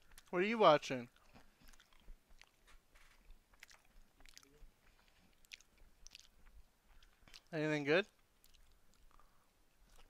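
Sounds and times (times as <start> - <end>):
person chewing: 0.0 - 0.4, 1.1 - 7.5, 8.1 - 10.0.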